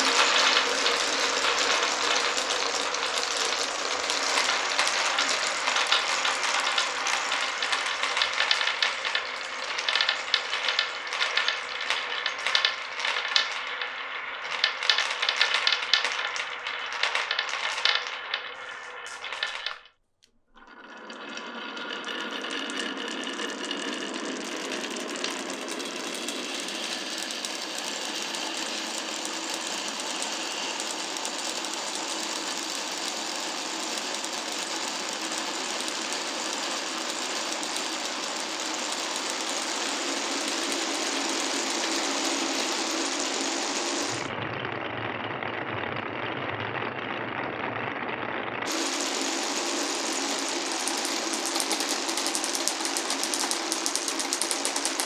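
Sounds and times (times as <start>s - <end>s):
marbles clattering through wooden run: 0.0s - 19.9s, 20.7s - 44.3s, 48.6s - 55.0s
marbles rolling rattle: 0.0s - 19.9s, 20.6s - 44.3s, 48.6s - 55.0s.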